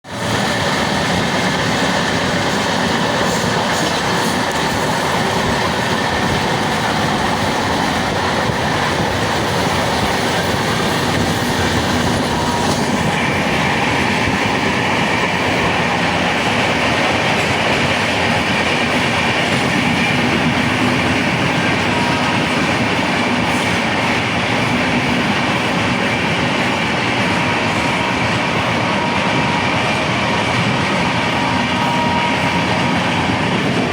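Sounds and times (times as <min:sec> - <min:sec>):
train rushing on tracks: 0:00.0 - 0:33.9.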